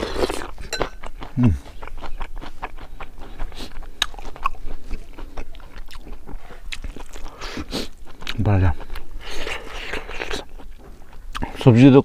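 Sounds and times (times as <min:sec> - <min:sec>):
person chewing crispy food: 0:00.0 - 0:11.8.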